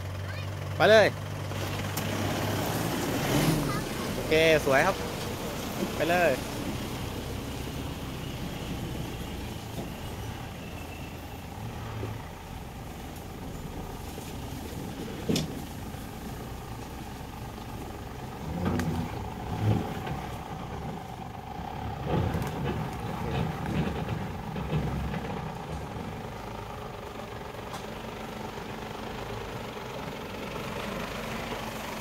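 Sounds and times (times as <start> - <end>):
pickup engine at low revs: 0.0 - 32.0.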